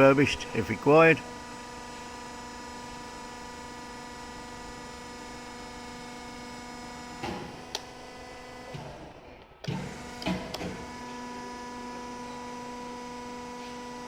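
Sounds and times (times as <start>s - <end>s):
electric motor hum: 0.0s - 14.0s.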